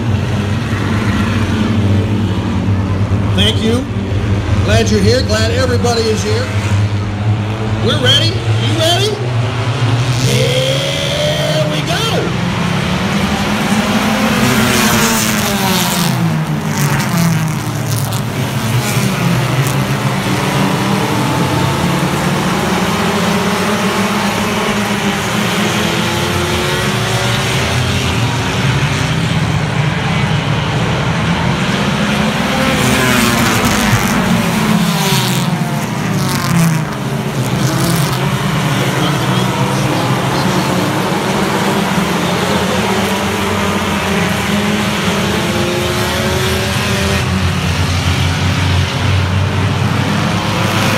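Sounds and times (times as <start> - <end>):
race car engines passing: 0.0 - 50.9.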